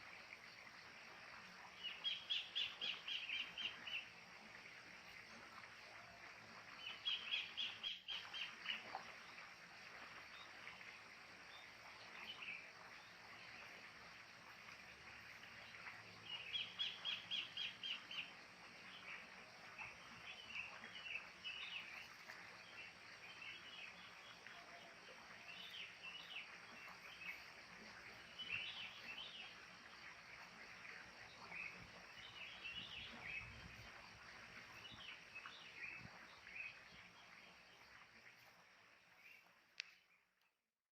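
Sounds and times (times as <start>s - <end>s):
faint outdoor background: 0.0s - 40.9s.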